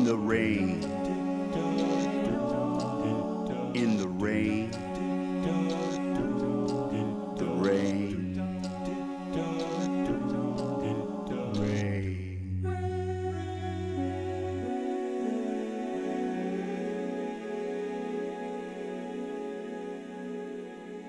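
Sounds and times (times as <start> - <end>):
vocal group singing held chords: 0.0 - 21.0.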